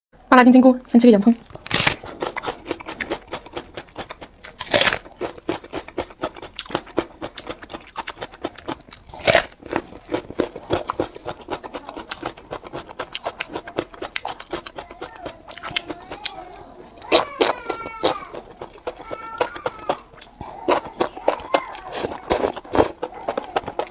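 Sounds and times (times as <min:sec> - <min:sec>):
chewing onion crunches: 0:01.3 - 0:23.9
wet mouth clicks: 0:01.4 - 0:23.9.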